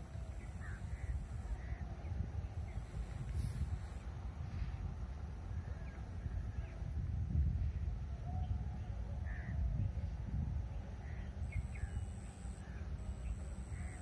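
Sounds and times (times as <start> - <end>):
thin high steady whine: 0.0 - 14.0
wind rumble on microphone: 0.0 - 14.0.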